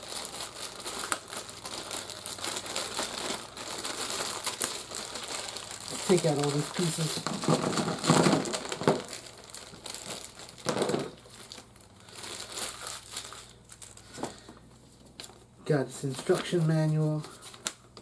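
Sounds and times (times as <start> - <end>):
toy packaging crinkling: 0.0 - 14.5, 16.0 - 17.8.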